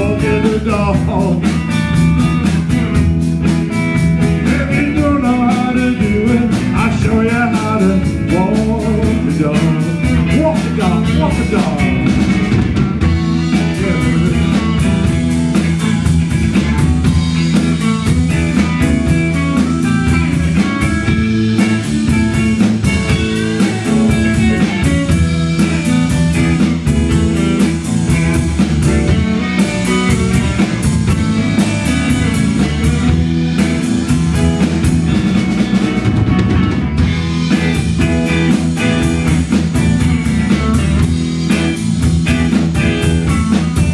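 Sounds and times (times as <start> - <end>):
drum kit: 0.0 - 43.9
electric bass: 0.0 - 43.9
electric guitars: 0.0 - 43.9.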